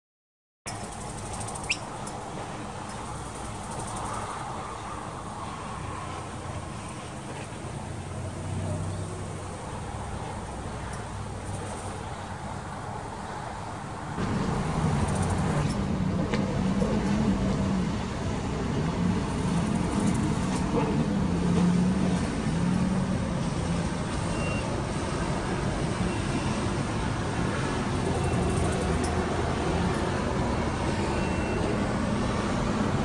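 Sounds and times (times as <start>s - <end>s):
heavy vehicle engine humming: 0.7s - 33.0s
road traffic: 0.7s - 33.0s.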